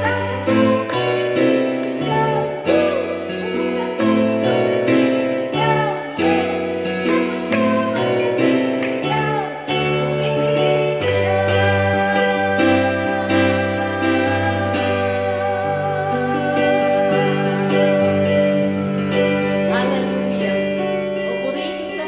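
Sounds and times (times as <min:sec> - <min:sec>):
electronic keyboard chords: 0:00.0 - 0:22.0
woman singing worship song: 0:00.0 - 0:22.0.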